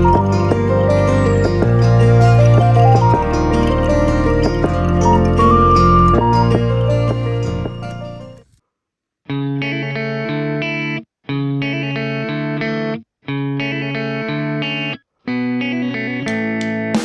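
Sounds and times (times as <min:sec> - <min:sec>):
electric guitar with effects: 0:00.0 - 0:08.5, 0:09.3 - 0:17.0.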